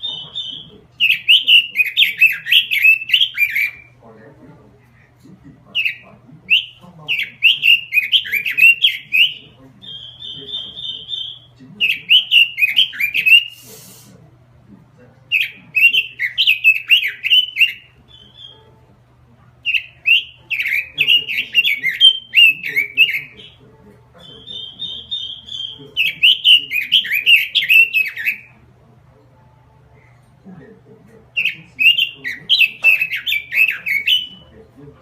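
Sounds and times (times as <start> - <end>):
high rapid bird trill: 0.0 - 4.0, 5.7 - 13.8, 15.3 - 18.8, 19.6 - 28.8, 31.3 - 35.0.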